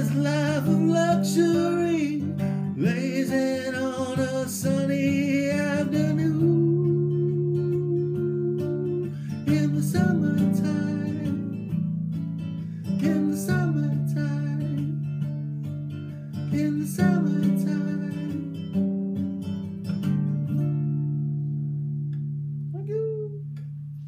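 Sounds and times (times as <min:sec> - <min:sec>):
classical guitar strumming: 0:00.0 - 0:24.0.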